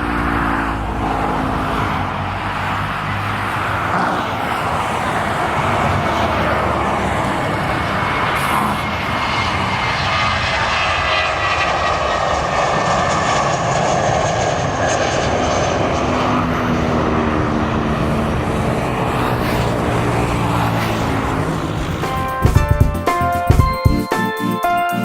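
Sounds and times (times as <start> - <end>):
jet engines passing: 0.0 - 25.0.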